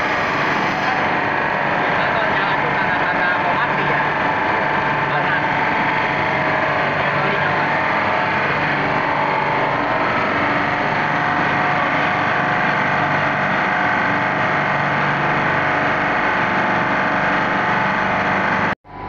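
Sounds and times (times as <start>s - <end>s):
refrigeration machine hum: 0.0s - 19.0s.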